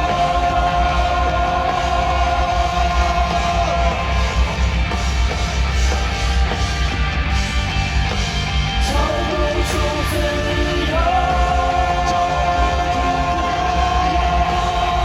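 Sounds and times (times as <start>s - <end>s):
rock band playing instrumental: 0.0s - 15.0s.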